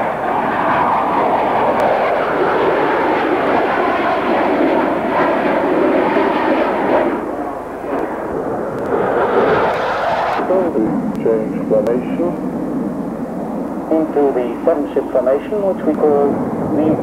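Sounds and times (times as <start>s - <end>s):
jet aircraft flying over: 0.0s - 17.0s.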